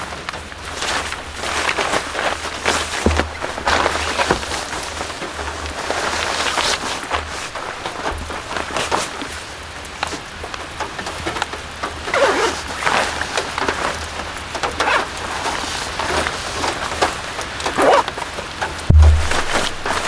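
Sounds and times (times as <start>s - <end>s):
rain falling: 0.0s - 20.0s
raindrops tapping on a surface: 0.0s - 20.0s.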